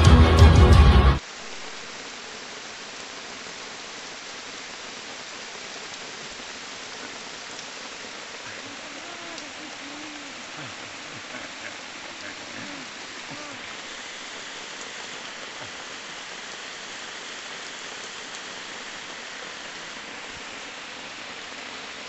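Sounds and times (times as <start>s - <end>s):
heavy rain on leaves: 0.0s - 22.0s.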